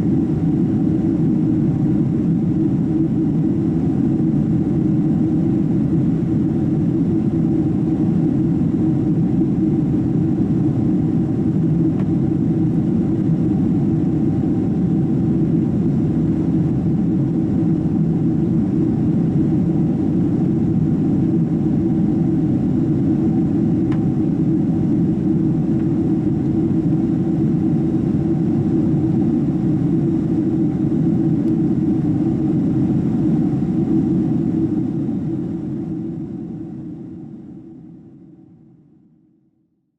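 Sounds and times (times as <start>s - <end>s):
jet engine and airflow rumble: 0.0s - 39.4s
faint steady hum: 0.0s - 39.8s.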